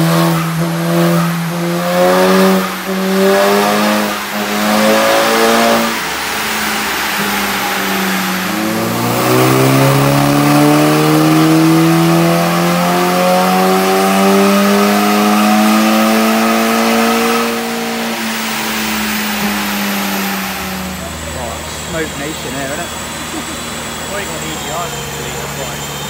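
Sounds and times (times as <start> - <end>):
car engine revving under load: 0.0 - 26.0.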